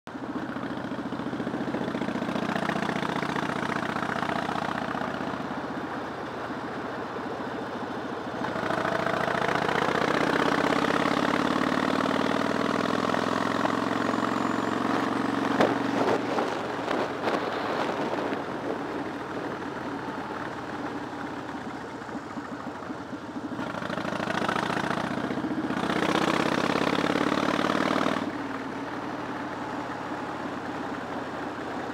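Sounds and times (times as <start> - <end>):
motorcycle engine revving: 0.2 - 7.0, 8.2 - 31.9.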